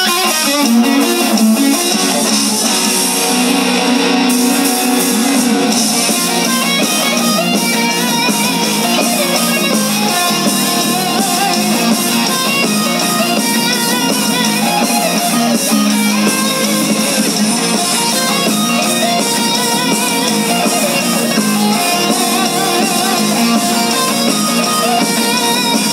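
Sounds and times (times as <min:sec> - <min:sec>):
electric guitar gliding notes: 0:00.0 - 0:25.9
live rock band playing: 0:00.0 - 0:25.9.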